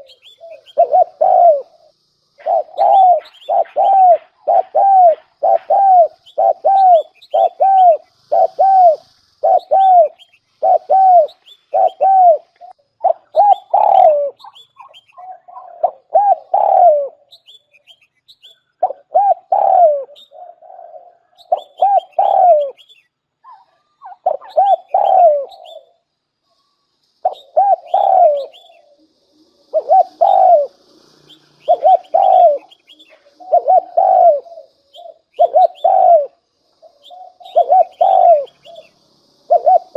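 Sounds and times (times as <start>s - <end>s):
dove cooing: 0.0s - 17.4s, 18.8s - 22.8s, 23.4s - 26.0s, 27.2s - 39.9s.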